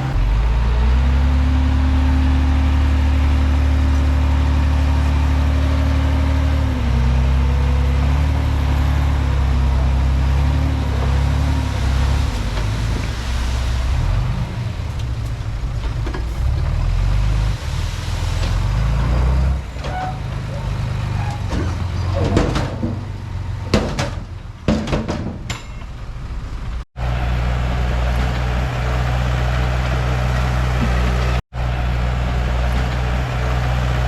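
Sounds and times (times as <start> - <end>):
bulldozer diesel engine running: 0.0 - 24.7, 25.4 - 34.0.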